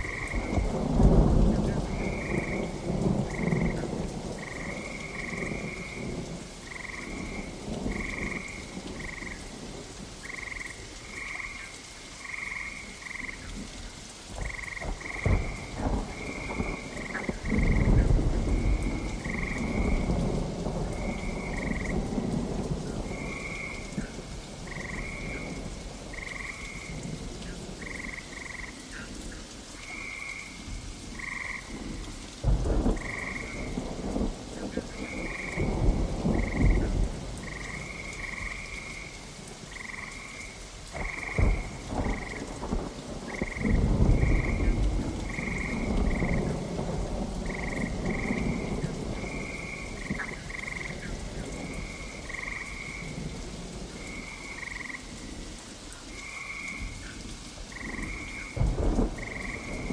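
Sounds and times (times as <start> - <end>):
thunder rumbling: 0.0 - 11.5, 14.3 - 28.7, 30.1 - 55.5, 56.2 - 59.9
frogs croaking: 0.0 - 59.9
steady rain: 0.0 - 59.9.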